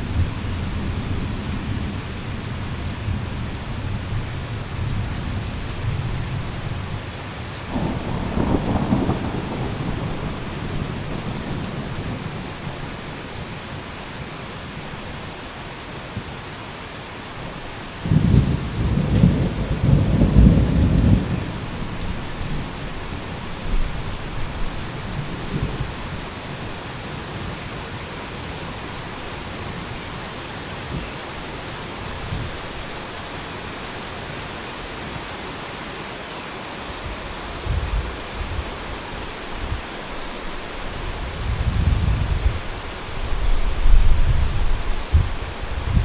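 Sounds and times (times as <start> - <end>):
thunder rumbling: 0.0 - 13.6, 18.0 - 33.3, 37.6 - 46.0
heavy rain pouring: 0.0 - 46.0.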